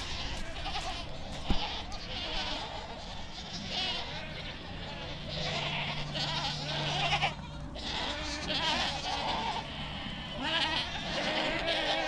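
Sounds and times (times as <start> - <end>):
goats bleating: 0.0 - 12.0.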